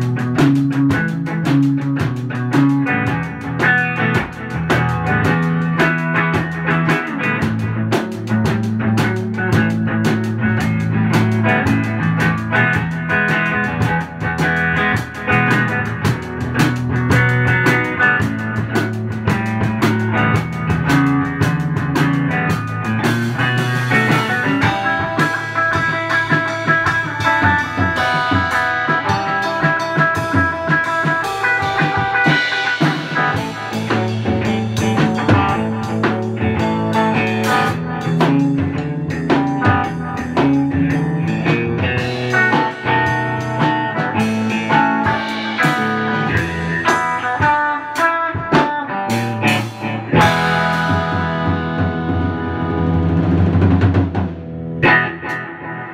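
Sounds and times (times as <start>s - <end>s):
electric guitar: 0.0s - 55.9s
live drum kit: 0.0s - 55.9s.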